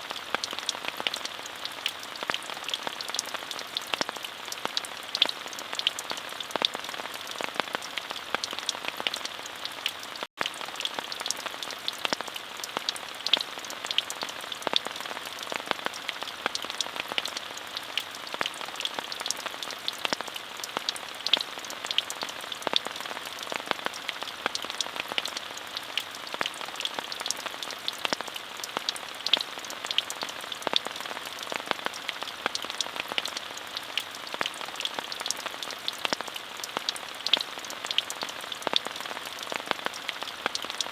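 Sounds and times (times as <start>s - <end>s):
steady rain falling: 0.0s - 40.9s
raindrop ticks: 0.1s - 40.9s.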